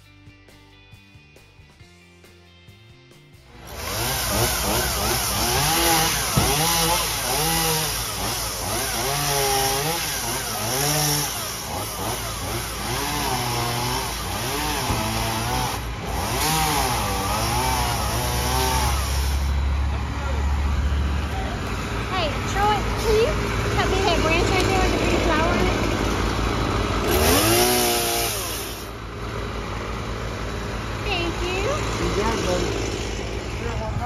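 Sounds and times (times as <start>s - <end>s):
chainsaw engine revving: 3.5s - 33.9s.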